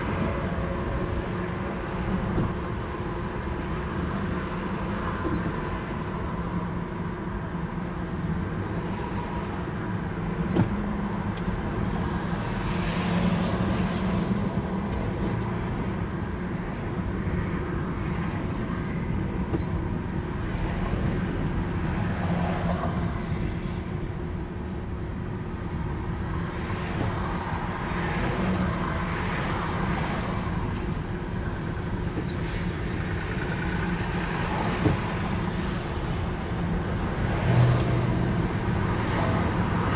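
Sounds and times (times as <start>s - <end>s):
vehicles rushing past: 0.0s - 24.3s, 25.2s - 39.9s
car road and engine noise: 0.0s - 39.9s.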